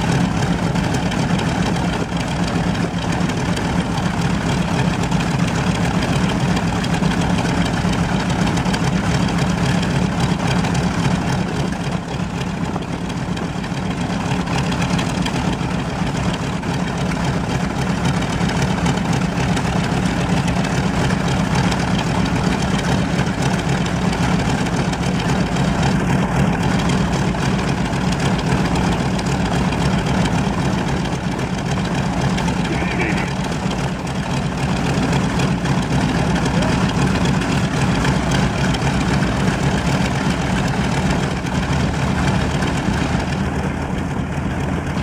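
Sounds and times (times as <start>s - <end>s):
radial engine running: 0.0s - 45.0s.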